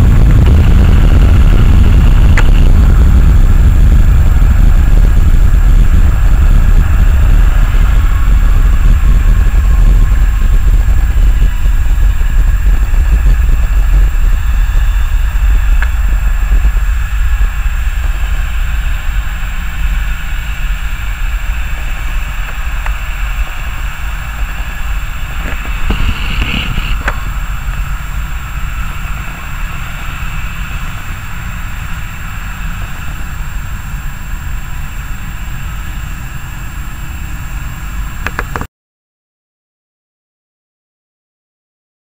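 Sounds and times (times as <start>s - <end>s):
jet engines roaring: 0.0s - 38.7s.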